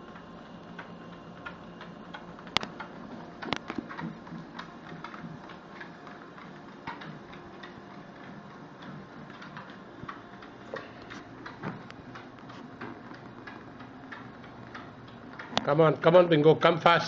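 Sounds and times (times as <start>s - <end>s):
treadmill running: 0.0s - 17.0s.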